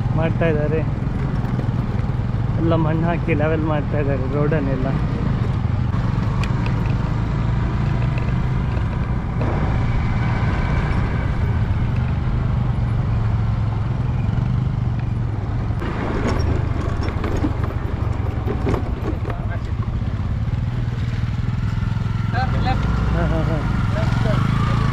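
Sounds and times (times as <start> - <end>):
motorcycle engine running: 0.0 - 24.9
road noise: 0.0 - 24.9.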